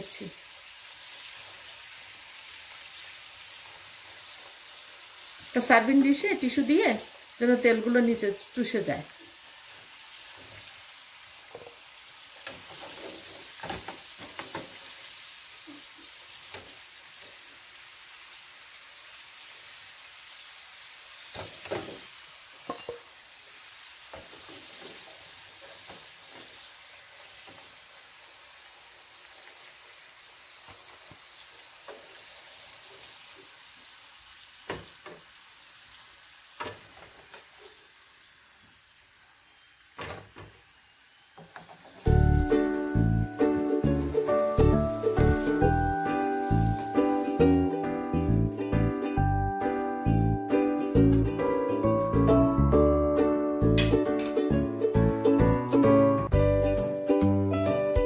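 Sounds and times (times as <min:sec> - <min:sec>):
food deep-frying in hot oil: 0:00.0 - 0:51.5.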